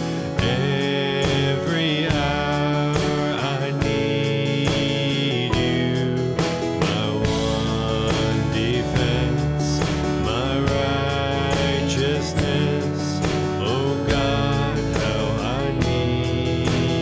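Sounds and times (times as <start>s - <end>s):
praise band playing: 0.0s - 17.0s
strummed acoustic guitar: 0.0s - 17.0s.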